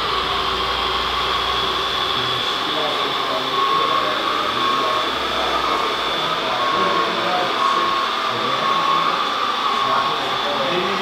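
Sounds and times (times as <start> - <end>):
hydraulic pump whining: 0.0 - 11.0.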